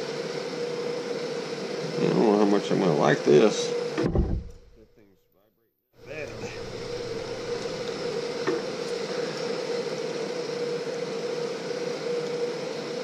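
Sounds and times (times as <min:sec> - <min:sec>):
steady machine hum: 0:00.0 - 0:05.1, 0:06.0 - 0:13.0.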